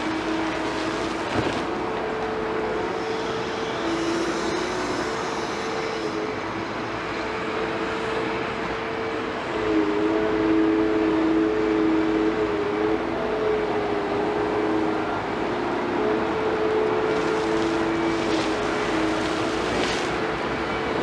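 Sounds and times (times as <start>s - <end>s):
excavator engine and hydraulic whine: 0.0s - 21.0s.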